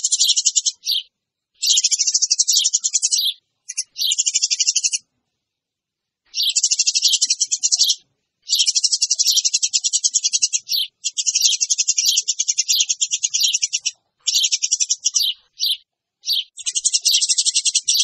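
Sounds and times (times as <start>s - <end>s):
sparrows chirping: 0.0s - 5.2s, 6.2s - 18.0s.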